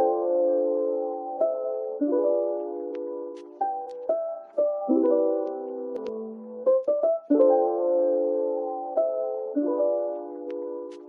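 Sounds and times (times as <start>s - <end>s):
soft background music chords: 0.0s - 11.0s.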